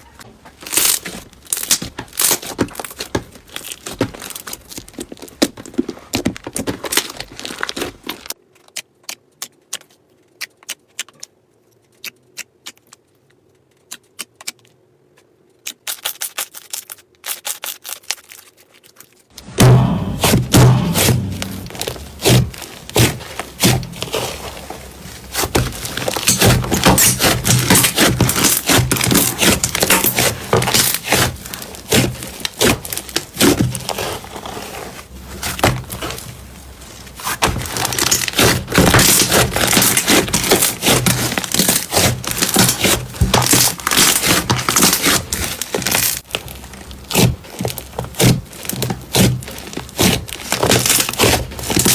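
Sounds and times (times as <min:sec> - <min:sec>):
crunchy slime crackling and popping: 0:00.1 - 0:51.9.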